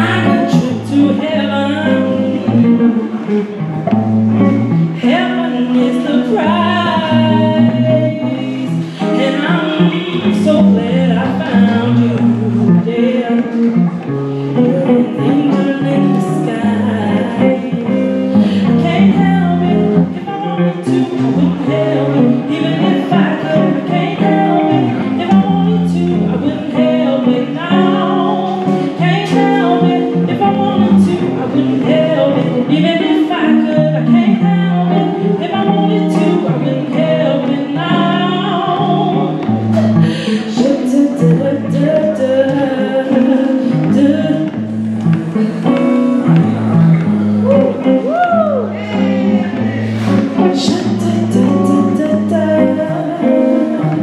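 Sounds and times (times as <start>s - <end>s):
instrumental backing: 0.0s - 54.0s
woman singing into a microphone: 0.0s - 54.0s.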